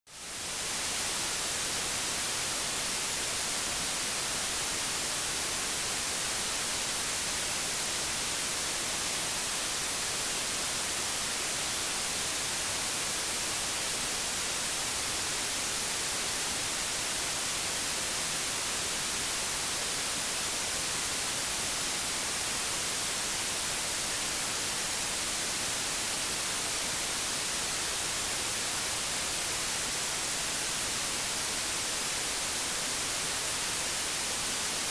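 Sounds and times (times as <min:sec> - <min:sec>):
television static hiss: 0:00.1 - 0:34.9.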